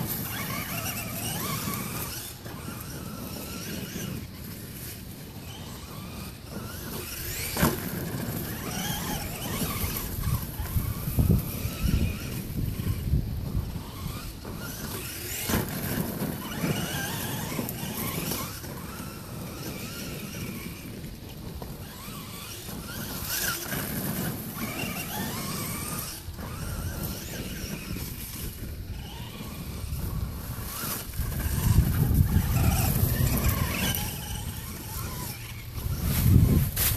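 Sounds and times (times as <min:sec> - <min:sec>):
rc truck electric motor whine: 0:00.0 - 0:36.9.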